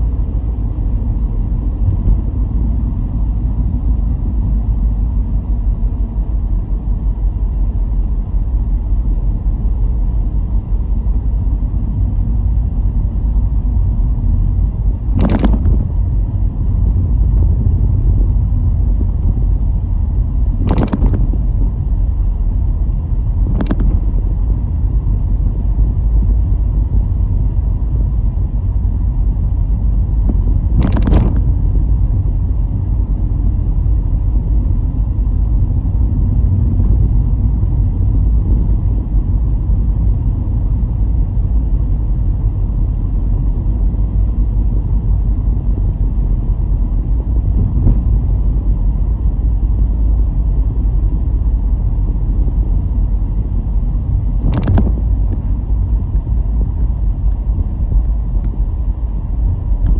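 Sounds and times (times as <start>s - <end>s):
car tyres and engine rumble: 0.0s - 59.9s.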